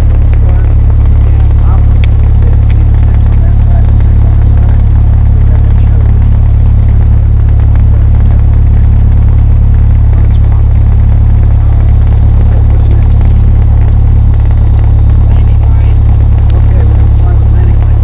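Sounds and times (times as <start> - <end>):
light aircraft engine drone: 0.0 - 18.0.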